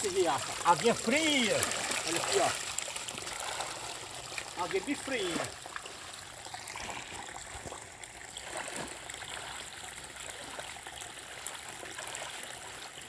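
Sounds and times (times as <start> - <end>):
creek rushing water: 0.0 - 12.8.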